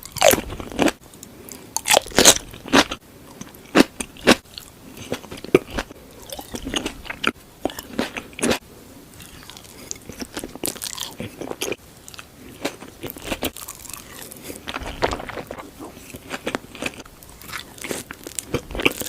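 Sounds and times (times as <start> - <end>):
crunchy chewing: 0.0 - 8.6, 9.2 - 19.0.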